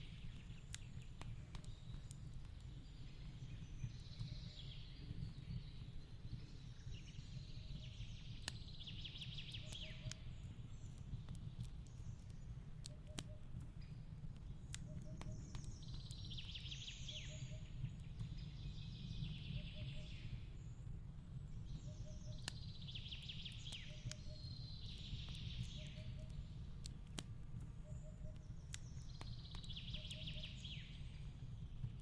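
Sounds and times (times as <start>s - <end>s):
fireplace crackling and popping: 0.0s - 32.0s.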